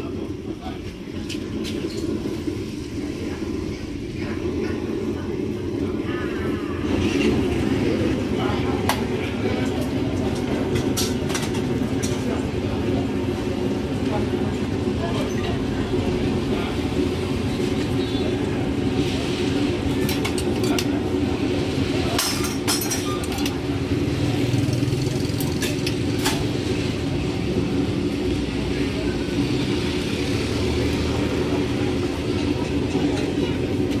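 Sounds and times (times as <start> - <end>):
street noise hum: 0.0 - 34.0.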